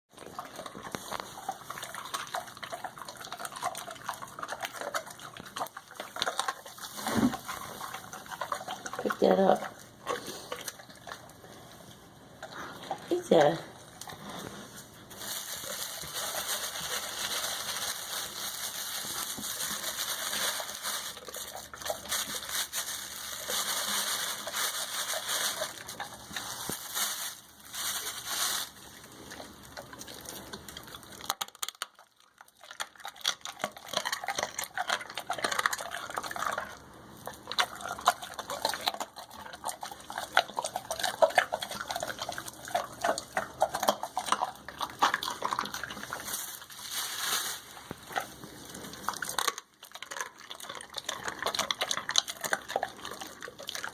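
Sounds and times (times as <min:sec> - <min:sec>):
dog chewing wetly: 0:00.1 - 0:26.8, 0:28.8 - 0:46.8, 0:47.7 - 0:53.9.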